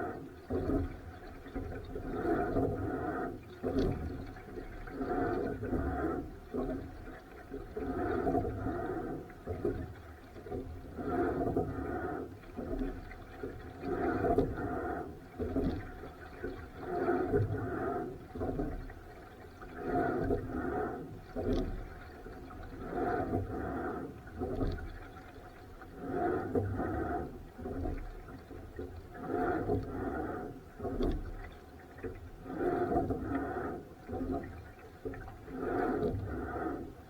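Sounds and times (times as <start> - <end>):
water sloshing with rowing strokes: 0.0 - 37.0.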